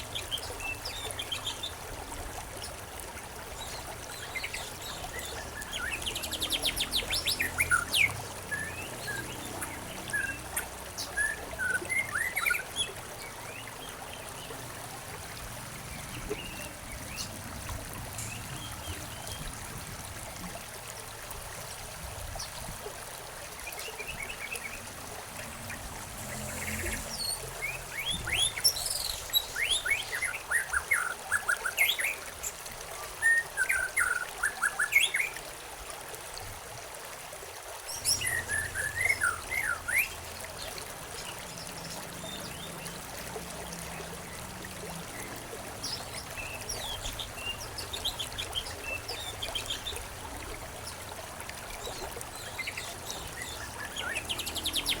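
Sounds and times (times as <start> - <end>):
songbirds chirping: 0.0 - 21.2, 23.4 - 35.4, 37.9 - 55.0
trickle of flowing water: 0.0 - 55.0.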